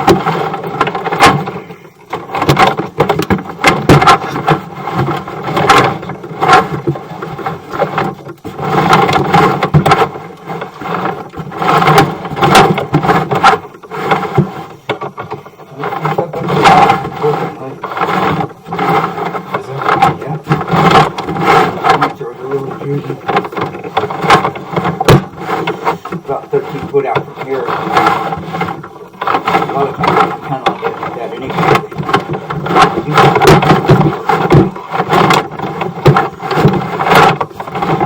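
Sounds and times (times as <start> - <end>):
cable scraping and knocking in pipe: 0.0 - 38.0.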